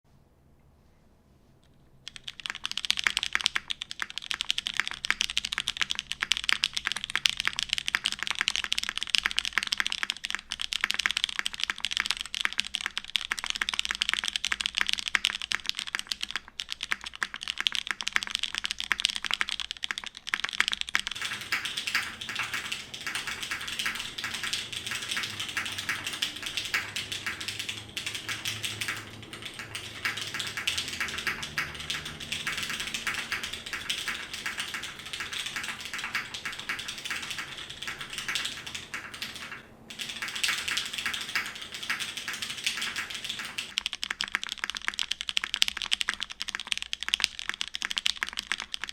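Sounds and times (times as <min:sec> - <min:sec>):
mechanical keyboard typing clacks: 0:02.0 - 0:48.9.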